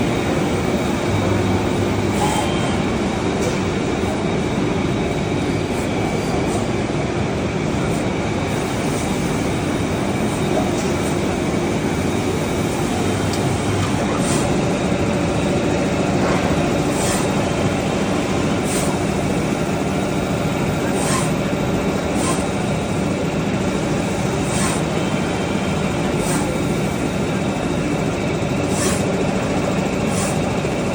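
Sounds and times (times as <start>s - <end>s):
router machine running: 0.0s - 30.9s.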